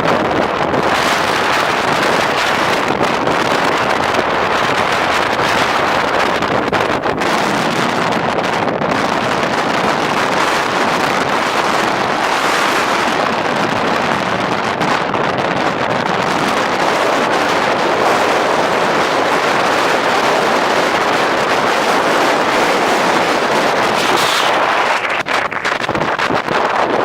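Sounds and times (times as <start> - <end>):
blizzard wind rushing: 0.0 - 27.0
wind buffeting microphone: 0.0 - 27.0.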